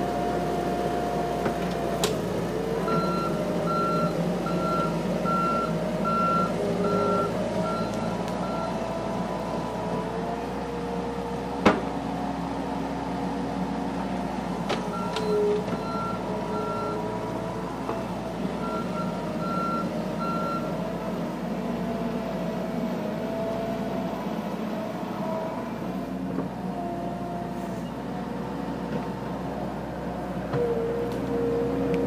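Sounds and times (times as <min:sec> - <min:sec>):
skid-steer loader running: 0:00.0 - 0:32.0.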